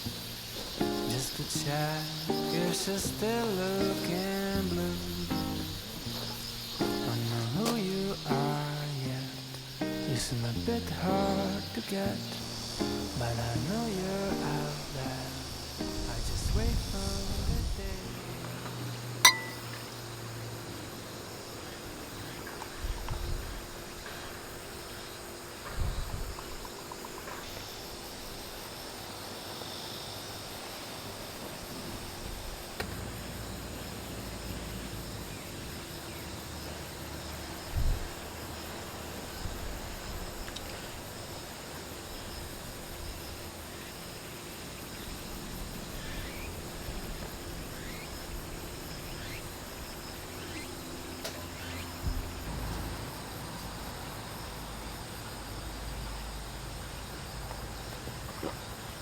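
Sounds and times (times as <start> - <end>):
insects buzzing and chirping: 0.0 - 59.0.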